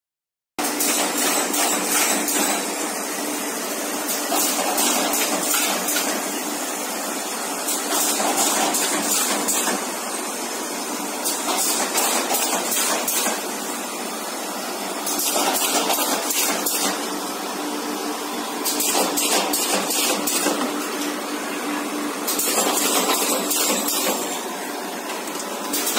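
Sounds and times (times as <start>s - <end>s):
machine clattering and hissing: 0.6s - 17.5s, 18.5s - 25.9s.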